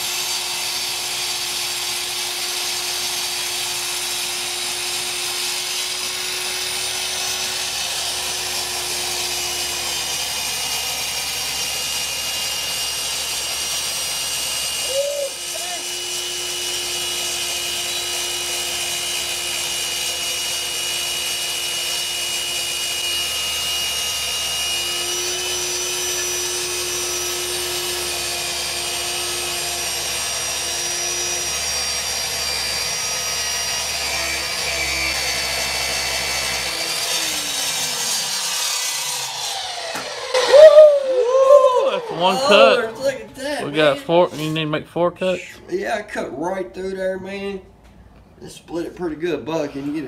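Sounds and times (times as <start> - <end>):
saw motor winding down: 0.0 - 44.6
circular saw cutting: 0.0 - 45.6.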